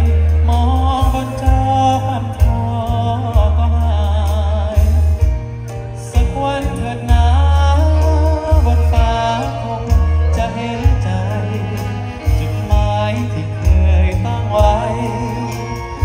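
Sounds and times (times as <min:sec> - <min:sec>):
live band through loudspeakers: 0:00.0 - 0:16.0
person singing: 0:00.0 - 0:16.0.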